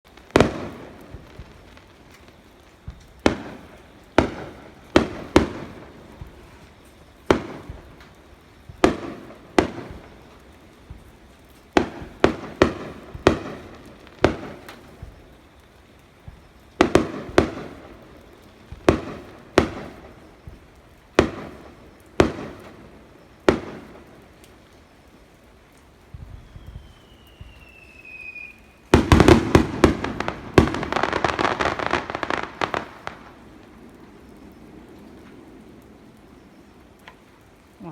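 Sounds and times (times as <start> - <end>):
firework shells bursting: 0.1 - 37.4.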